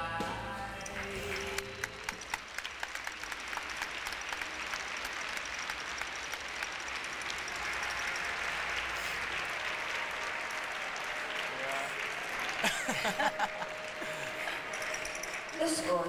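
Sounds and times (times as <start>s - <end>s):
audience applause: 0.8s - 16.0s.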